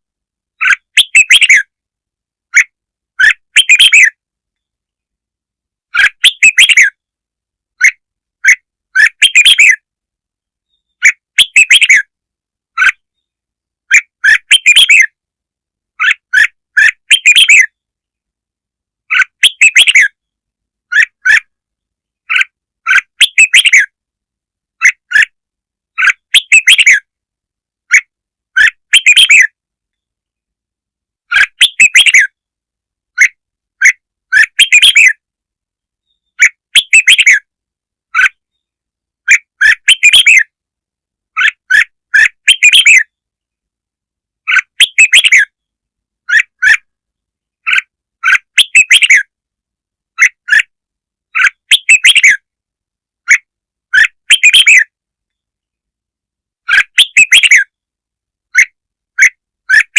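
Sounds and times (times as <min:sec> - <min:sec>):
bird chirping song: 0:00.0 - 0:01.8, 0:02.5 - 0:05.2, 0:05.9 - 0:15.3, 0:15.9 - 0:18.4, 0:19.0 - 0:24.1, 0:24.7 - 0:27.2, 0:27.8 - 0:30.5, 0:31.2 - 0:40.6, 0:41.3 - 0:43.7, 0:44.4 - 0:49.4, 0:50.1 - 0:52.6, 0:53.2 - 0:55.8, 0:56.6 - 0:57.9, 0:58.5 - 0:59.9.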